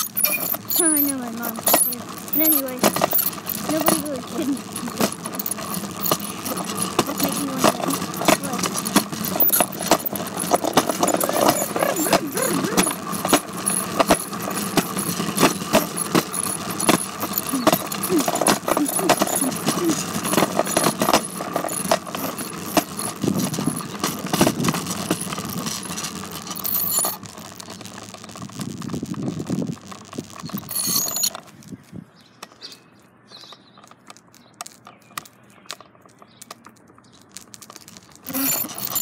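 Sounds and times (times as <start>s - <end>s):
bicycle rattling and clicking: 0.0s - 39.0s.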